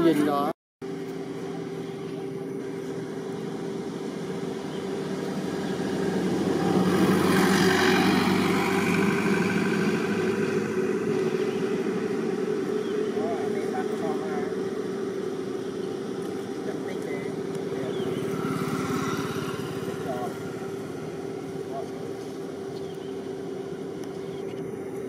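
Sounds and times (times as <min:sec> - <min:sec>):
vehicle passing on road: 0:00.0 - 0:25.0.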